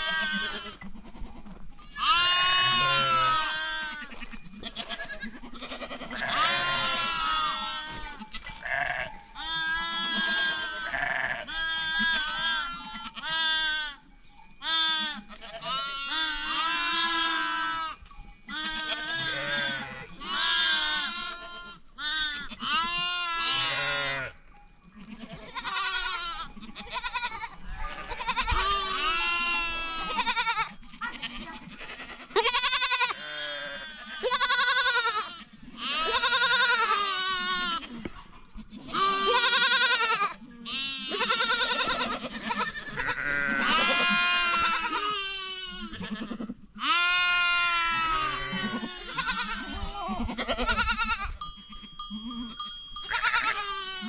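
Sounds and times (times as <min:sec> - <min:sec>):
goats bleating: 0:00.0 - 0:14.0, 0:14.6 - 0:54.0.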